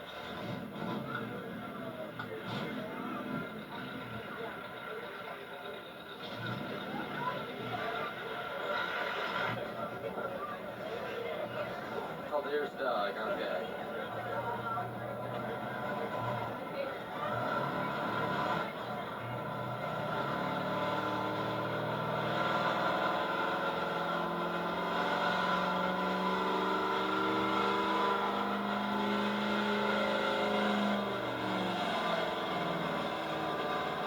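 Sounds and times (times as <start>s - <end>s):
truck engine running hard: 0.0s - 34.0s.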